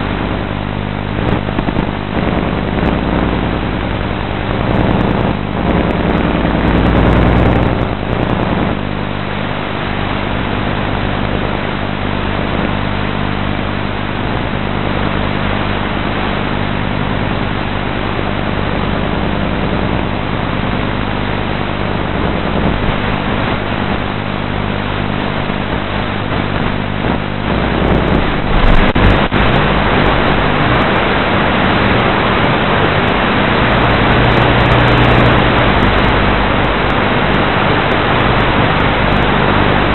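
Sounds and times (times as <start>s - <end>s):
rushing air: 0.0s - 16.1s, 18.1s - 39.9s
electric motors and propellers humming: 0.0s - 39.9s.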